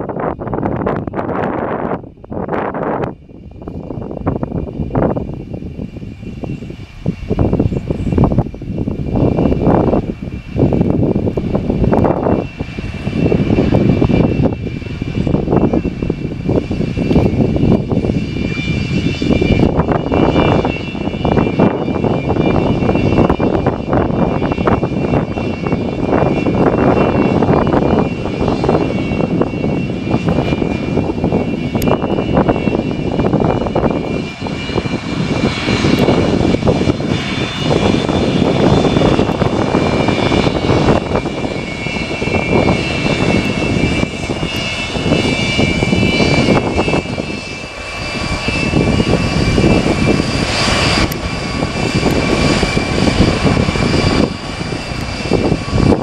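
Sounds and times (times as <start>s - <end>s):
jet engines rumbling and whining: 0.0s - 56.0s.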